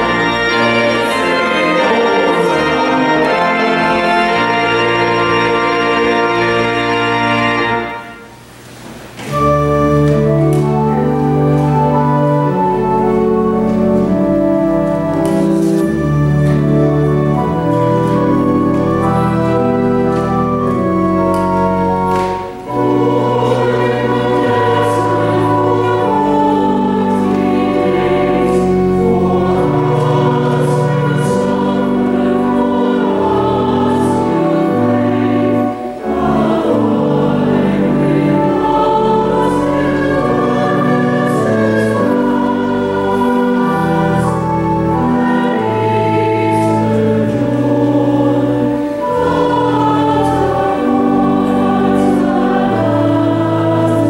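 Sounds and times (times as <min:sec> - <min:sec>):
church choir singing: 0:00.0 - 0:54.0
organ accompaniment: 0:00.0 - 0:54.0.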